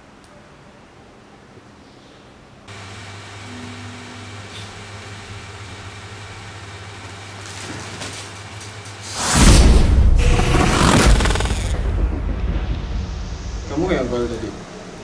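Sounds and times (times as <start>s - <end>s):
room noise hum: 0.0s - 15.0s.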